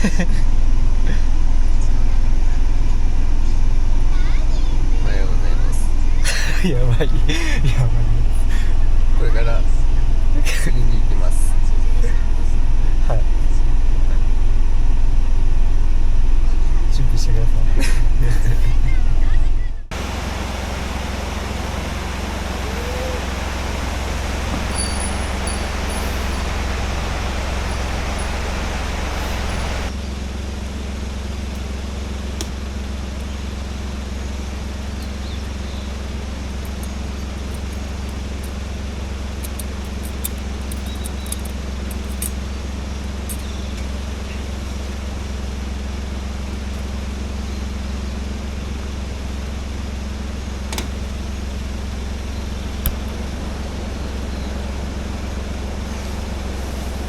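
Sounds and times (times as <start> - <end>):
car running with road rush: 0.0 - 57.0.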